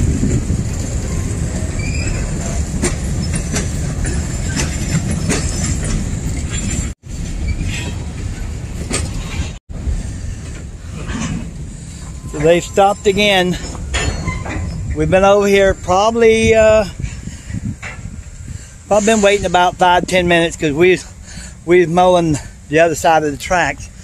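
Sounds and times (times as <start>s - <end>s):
freight train rumbling: 0.0s - 24.0s
wheels clicking over rail joints: 0.0s - 24.0s
wheel squeals: 0.1s - 20.2s.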